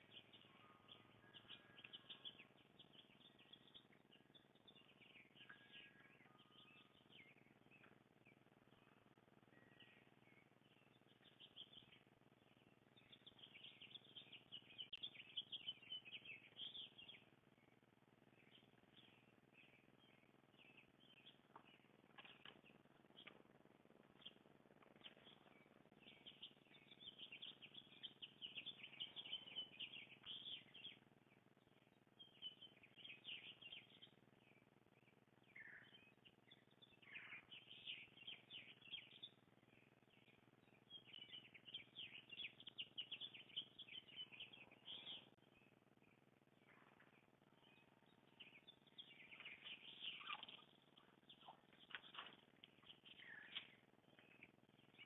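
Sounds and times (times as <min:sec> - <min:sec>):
faint songbirds chirping: 0:00.0 - 0:55.0.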